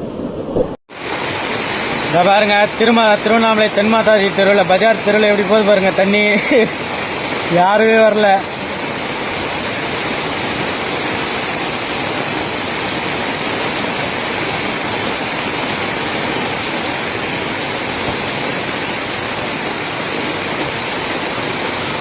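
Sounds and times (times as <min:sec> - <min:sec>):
floodwater flowing: 0:00.0 - 0:22.0
heavy rain: 0:00.9 - 0:22.0.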